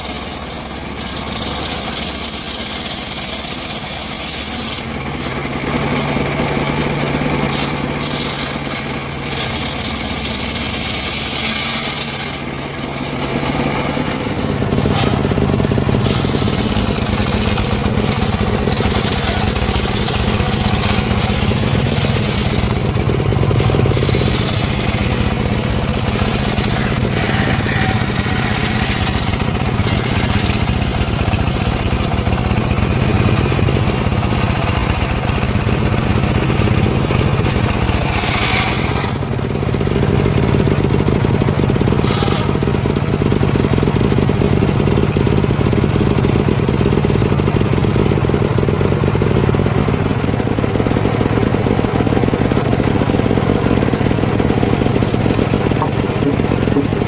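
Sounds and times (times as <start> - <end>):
blade cutting through wood: 0.0 - 12.8, 13.4 - 43.9, 53.9 - 57.0
saw engine running: 0.0 - 57.0.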